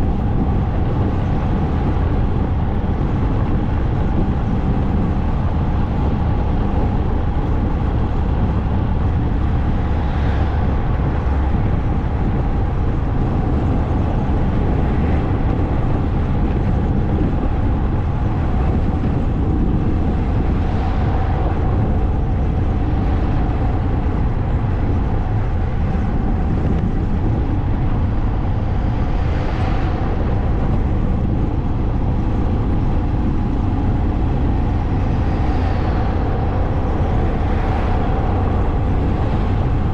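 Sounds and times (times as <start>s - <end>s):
motorcycle engine rumble: 0.0s - 39.9s
wind noise: 0.0s - 39.9s.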